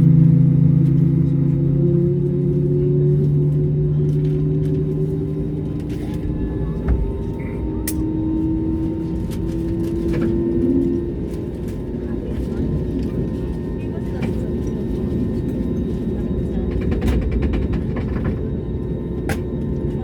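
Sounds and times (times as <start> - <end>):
jet engines droning: 0.0 - 20.0.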